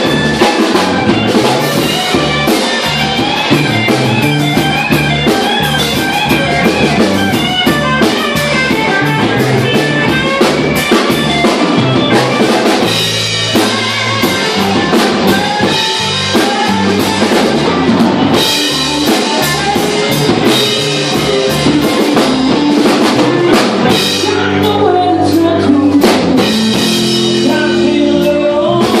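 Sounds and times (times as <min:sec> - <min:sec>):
blues band playing: 0:00.0 - 0:29.0
drum kit beat: 0:00.0 - 0:29.0.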